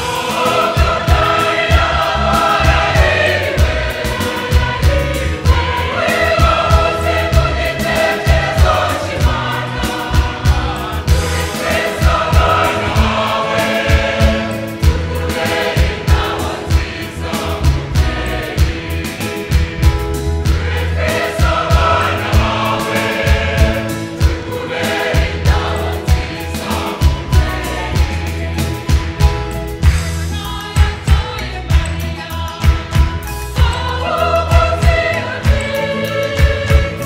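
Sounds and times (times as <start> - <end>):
choir singing a gospel hymn: 0.0 - 37.0
electric keyboard: 0.0 - 37.0
rhythmic clapping: 0.0 - 37.0.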